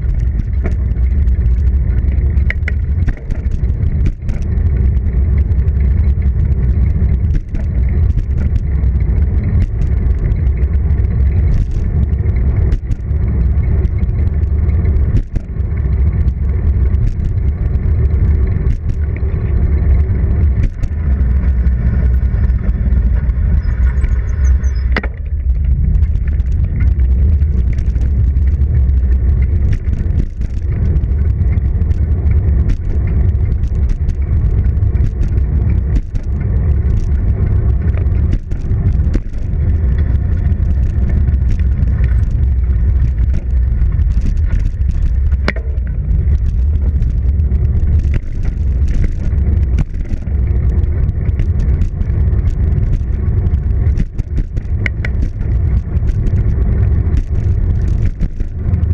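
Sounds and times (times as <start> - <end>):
bicycle knocks and rattles: 0.0 - 58.9
wind buffeting microphone: 0.0 - 58.9.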